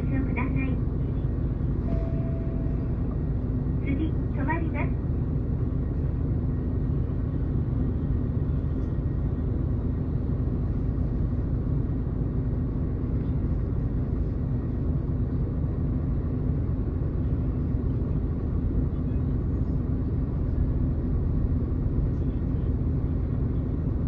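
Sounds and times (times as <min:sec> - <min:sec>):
bus diesel engine drone: 0:00.0 - 0:24.0
road rumble: 0:00.0 - 0:24.0.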